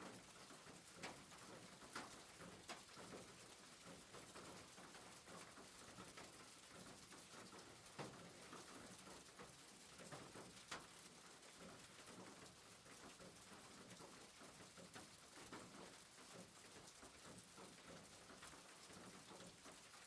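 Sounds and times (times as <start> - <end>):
rain pattering on a roof: 0.0 - 20.0.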